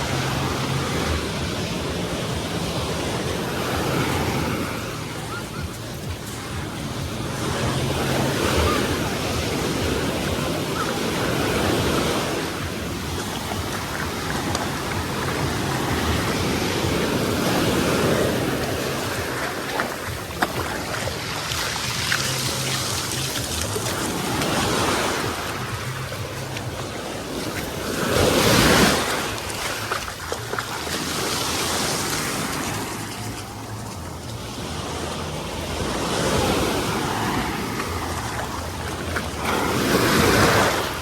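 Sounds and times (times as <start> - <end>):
sea waves washing onto beach: 0.0 - 41.0.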